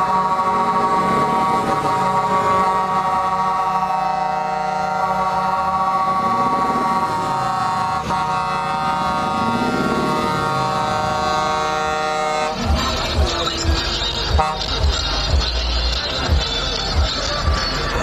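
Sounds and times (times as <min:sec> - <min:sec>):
truck air horns chord: 0:00.0 - 0:18.0.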